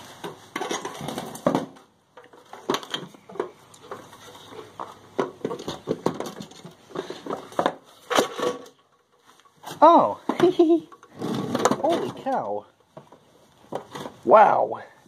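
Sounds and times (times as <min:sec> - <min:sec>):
metal toolbox clicks and clanks: 0:00.0 - 0:12.6.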